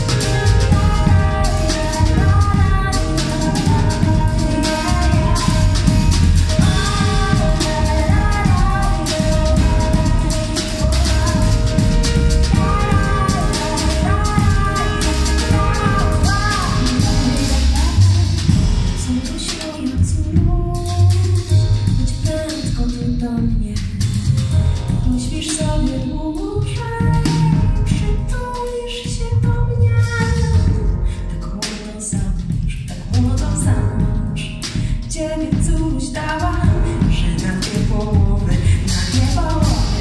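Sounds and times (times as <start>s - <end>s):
upright double bass: 0.0s - 25.6s, 29.4s - 31.7s, 32.5s - 40.0s
drum kit and cymbals: 0.0s - 40.0s
piano: 0.0s - 40.0s
woman singing: 0.0s - 40.0s.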